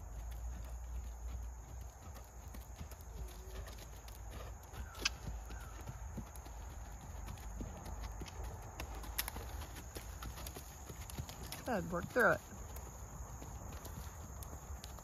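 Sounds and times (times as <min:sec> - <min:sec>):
horse hooves trotting on gravel: 0:00.0 - 0:15.0.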